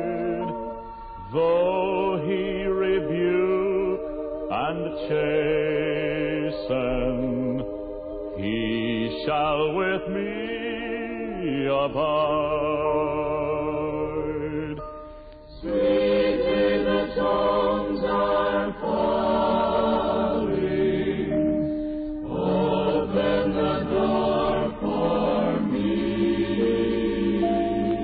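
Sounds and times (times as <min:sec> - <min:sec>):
voices singing slow hymn: 0:00.0 - 0:28.0.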